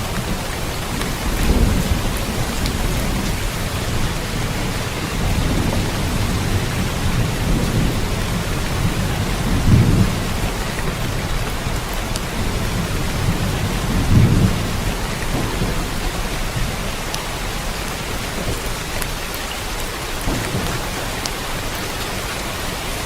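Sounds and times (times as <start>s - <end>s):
low thunder rumbling: 0.0s - 23.0s
steady rain hiss: 0.0s - 23.0s.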